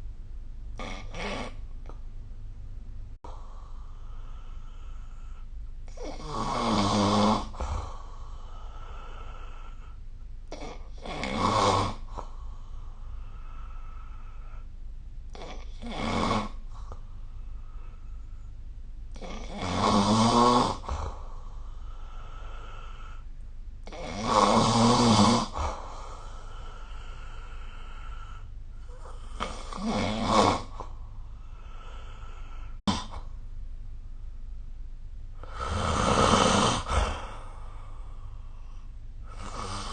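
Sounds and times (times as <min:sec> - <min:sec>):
person snoring: 0:00.8 - 0:02.0, 0:03.3 - 0:14.7, 0:15.3 - 0:18.1, 0:19.1 - 0:33.3, 0:35.4 - 0:39.9.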